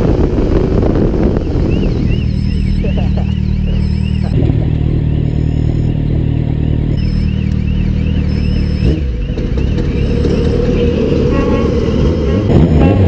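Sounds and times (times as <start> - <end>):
motorcycle engines idling: 0.0 - 13.0
level-crossing warning signal: 1.9 - 12.5.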